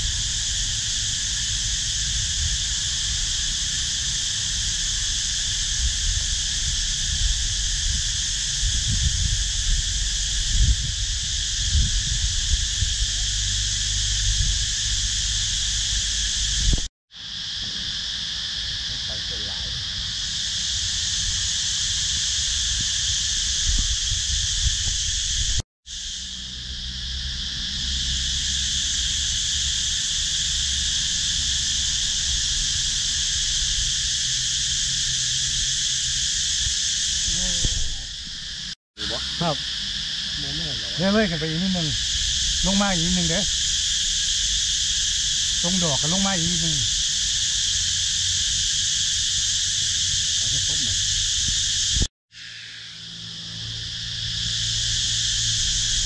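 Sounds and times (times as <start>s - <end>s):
cicadas buzzing: 0.0s - 56.0s.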